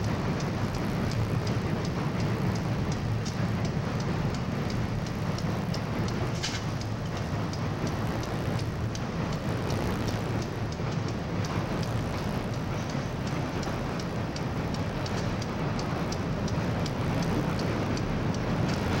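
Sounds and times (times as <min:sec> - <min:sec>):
freight train rumbling on bridge: 0:00.0 - 0:19.0
train wheels clicking: 0:00.0 - 0:19.0.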